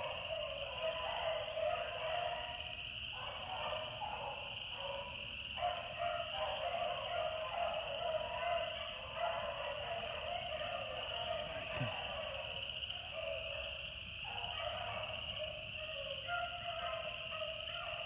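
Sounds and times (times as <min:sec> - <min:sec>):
pack of dogs baying: 0:00.0 - 0:18.0.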